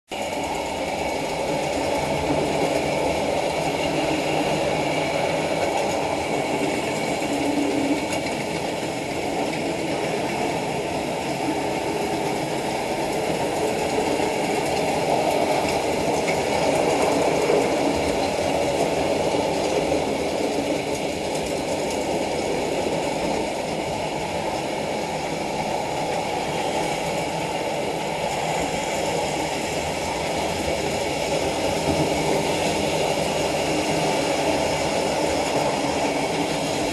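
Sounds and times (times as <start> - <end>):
model trains running on track: 0.1 - 36.9.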